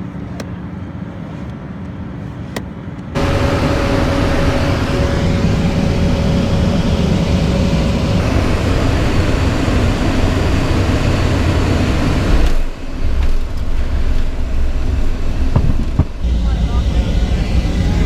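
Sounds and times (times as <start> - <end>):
jet cabin airflow and engine hum: 0.0 - 18.0.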